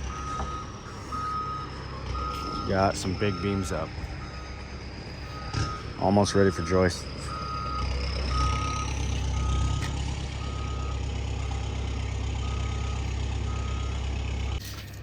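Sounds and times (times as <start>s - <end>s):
backup alarm beeping: 0.0s - 11.7s, 12.4s - 14.6s
heavy machinery engine running: 0.0s - 15.0s.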